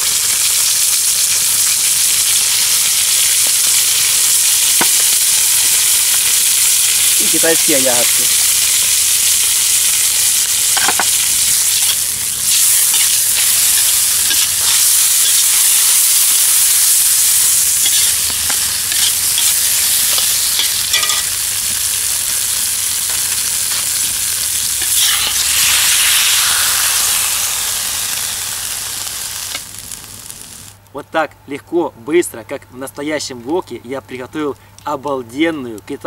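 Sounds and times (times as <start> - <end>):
food sizzling in a wok: 0.0 - 30.8.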